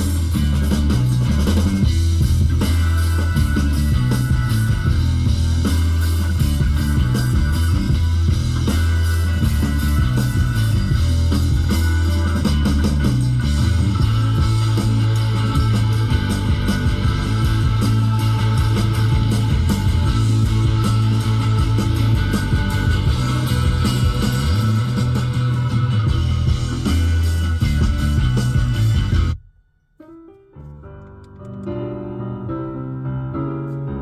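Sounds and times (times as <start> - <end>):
rock music with heavy bass: 0.0 - 29.4.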